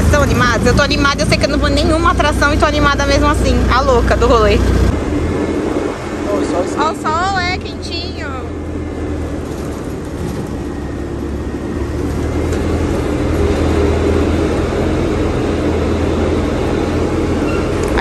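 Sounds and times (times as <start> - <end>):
tram engine drone: 0.0 - 18.0.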